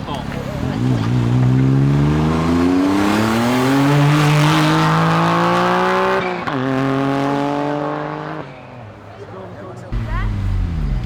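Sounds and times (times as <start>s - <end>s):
car accelerating hard: 0.0s - 8.5s, 10.0s - 11.0s.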